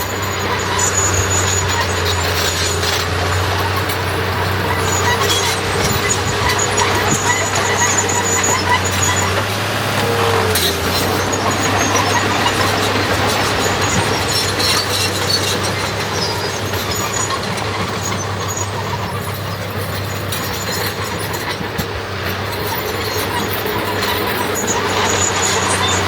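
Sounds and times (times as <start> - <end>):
diesel engine humming: 0.0 - 26.0
high metallic squeaks: 0.0 - 26.0.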